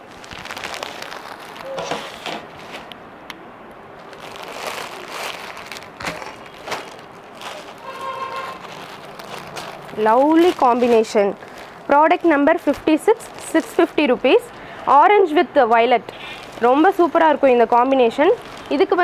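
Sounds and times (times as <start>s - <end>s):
plastic packaging crinkling: 0.0s - 3.0s, 4.0s - 19.0s.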